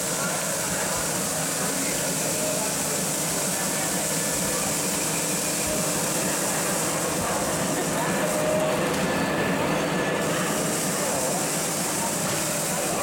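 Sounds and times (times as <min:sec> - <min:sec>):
babble of many voices: 0:00.0 - 0:13.0.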